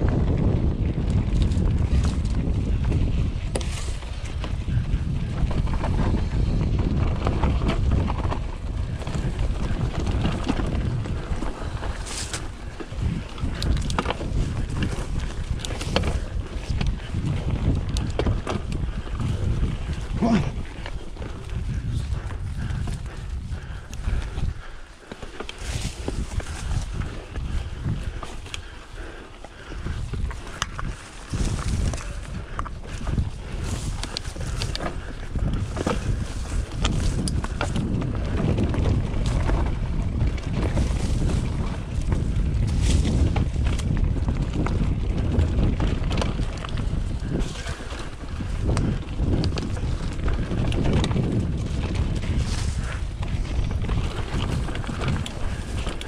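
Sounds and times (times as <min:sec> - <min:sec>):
bike clicks and rattles: 0:00.0 - 0:56.0
wind buffeting microphone: 0:00.0 - 0:56.0
tyres on dirt and stones: 0:00.9 - 0:56.0.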